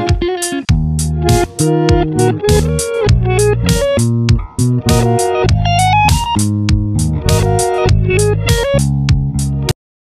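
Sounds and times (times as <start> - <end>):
instrumental pop music: 0.0 - 9.8.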